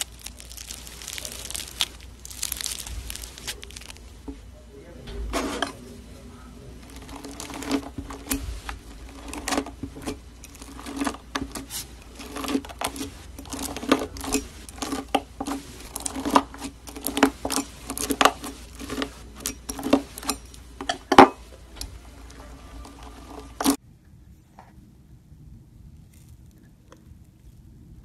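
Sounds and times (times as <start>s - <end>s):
foam beads crackling and popping: 0.0s - 4.5s, 5.3s - 23.8s.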